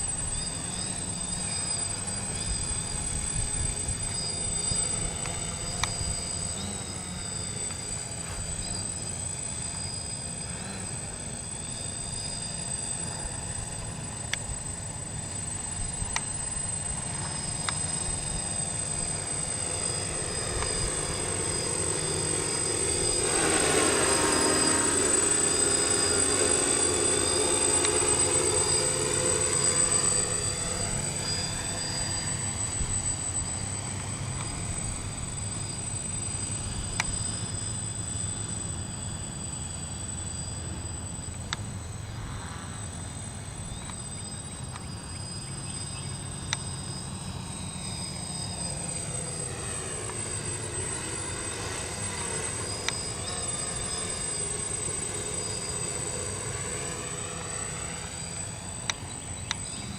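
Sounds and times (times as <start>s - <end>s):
drone propellers buzzing: 0.0s - 59.9s.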